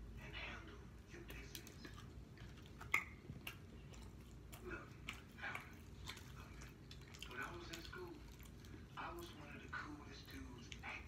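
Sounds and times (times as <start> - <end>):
person chewing pizza: 1.1 - 11.0.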